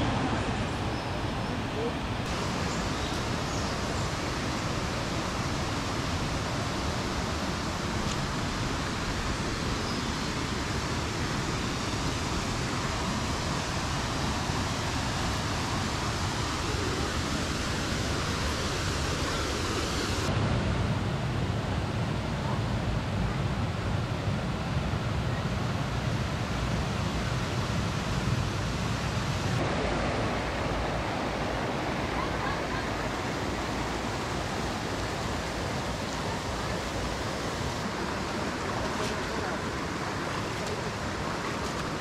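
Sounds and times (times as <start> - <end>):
stream water flowing: 0.0 - 42.0
water rushing over cascade: 0.0 - 42.0.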